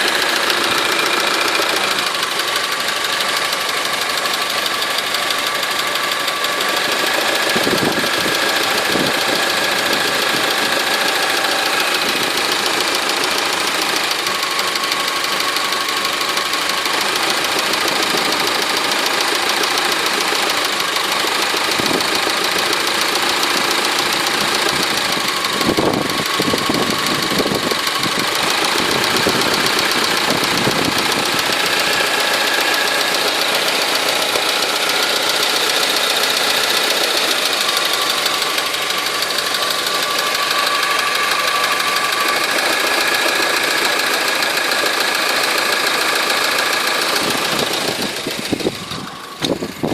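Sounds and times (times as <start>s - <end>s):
engine running with knock: 0.0s - 49.9s.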